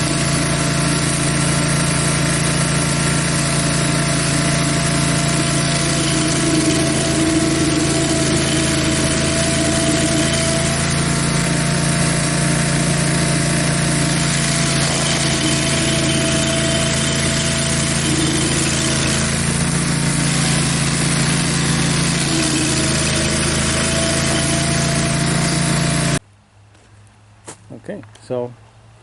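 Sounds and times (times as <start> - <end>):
stump grinder grinding: 0.0 - 26.2.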